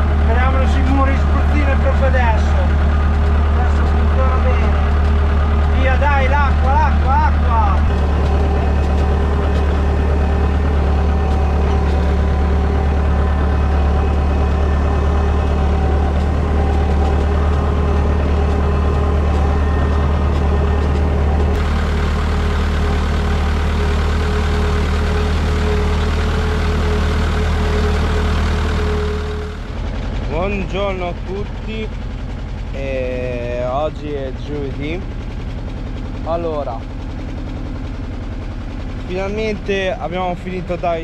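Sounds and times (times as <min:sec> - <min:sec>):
tractor engine humming: 0:00.0 - 0:41.0.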